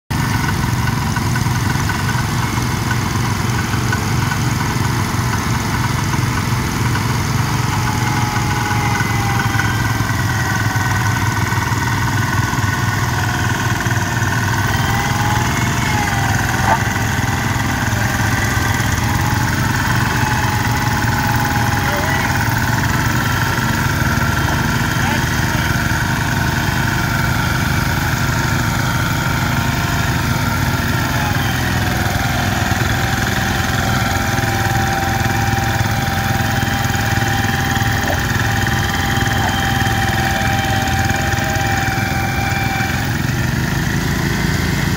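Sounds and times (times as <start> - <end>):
garden tractor engines running: 0.1 - 44.9.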